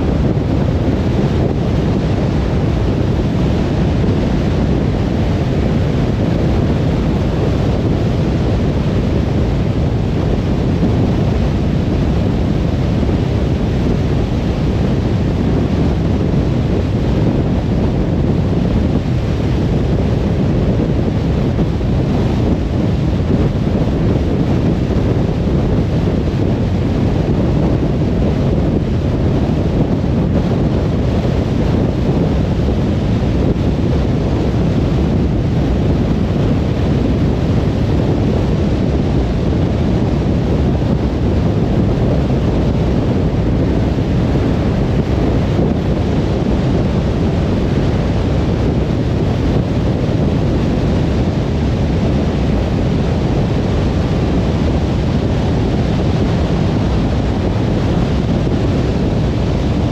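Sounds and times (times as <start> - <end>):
car road noise at speed: 0.0 - 59.9.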